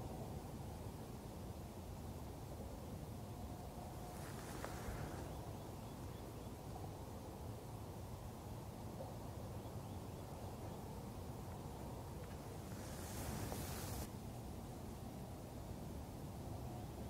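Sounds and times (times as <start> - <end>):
low outdoor rushing noise: 0.0 - 17.0.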